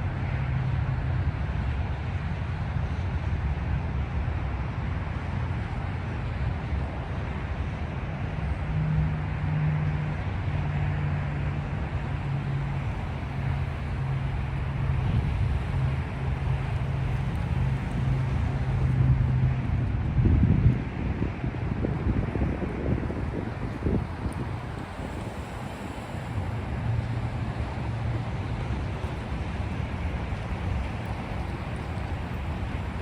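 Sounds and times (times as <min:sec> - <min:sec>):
freight train rumbling: 0:00.0 - 0:33.0
low steady hum: 0:00.0 - 0:33.0.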